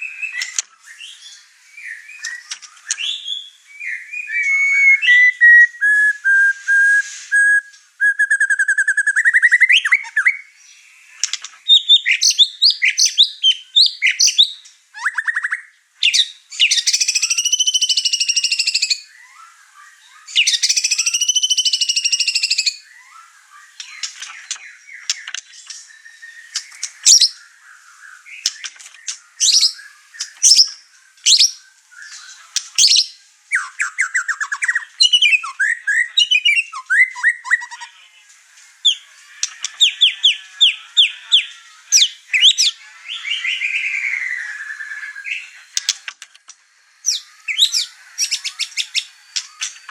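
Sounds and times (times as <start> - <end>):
songbird singing whistles and trills: 0.0 - 38.0, 38.8 - 45.9, 46.9 - 49.9.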